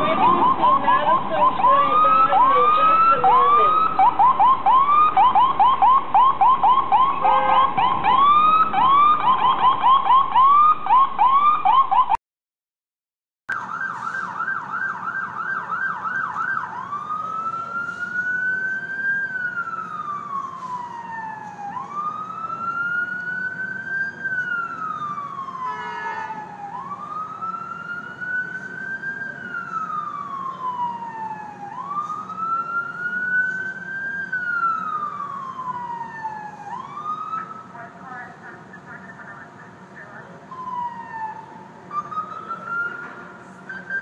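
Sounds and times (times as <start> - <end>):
traffic rumble: 0.0 - 12.1, 13.5 - 44.0
ambulance siren wailing: 0.0 - 12.2, 13.5 - 44.0
siren yelp: 0.0 - 12.2, 13.5 - 44.0.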